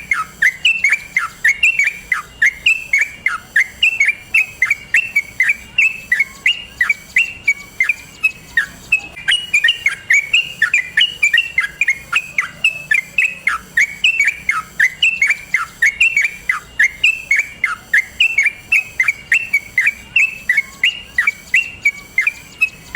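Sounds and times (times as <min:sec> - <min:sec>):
bulbul singing rapid notes: 0:00.0 - 0:22.9.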